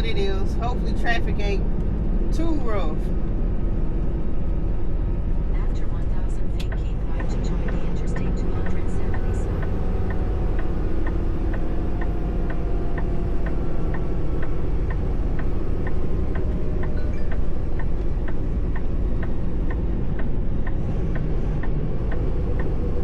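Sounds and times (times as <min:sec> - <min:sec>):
turn signal ticking: 0:00.0 - 0:23.0.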